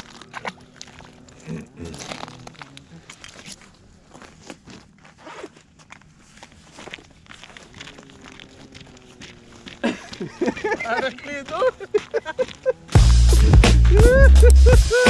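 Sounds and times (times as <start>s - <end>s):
boots crunching on snow: 0.0s - 14.3s.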